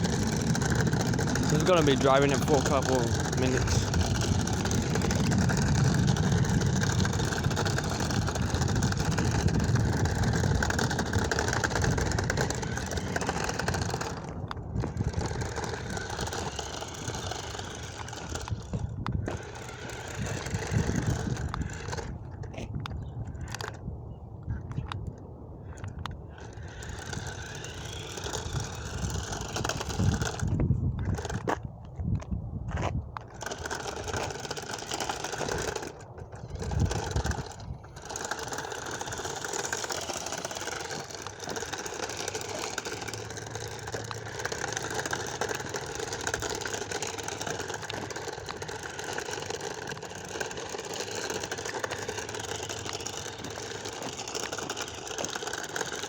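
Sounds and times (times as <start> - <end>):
low rumbles: 0.0 - 56.0
toy car electric motor whirring: 0.0 - 56.0.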